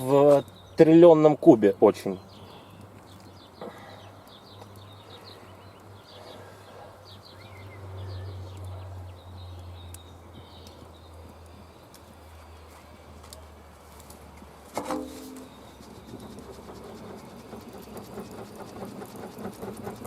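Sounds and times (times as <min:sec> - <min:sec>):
small birds chirping: 0:00.0 - 0:13.6, 0:15.1 - 0:20.0.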